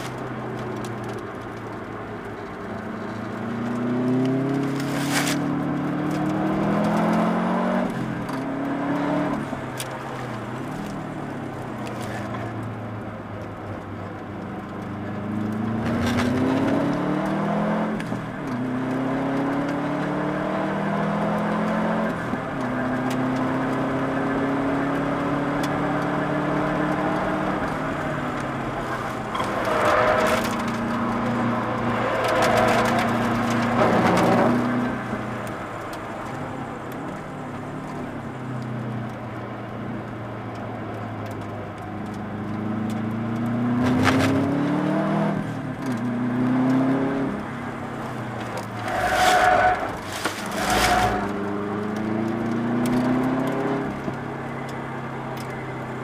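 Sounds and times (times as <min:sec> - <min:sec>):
car engine revving through gears: 0:02.3 - 0:12.6, 0:14.5 - 0:39.8, 0:41.1 - 0:56.0.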